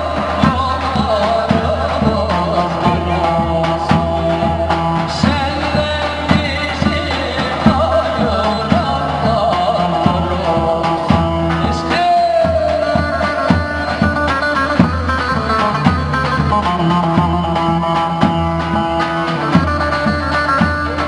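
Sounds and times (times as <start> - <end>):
dance music with drum beat: 0.0 - 21.0.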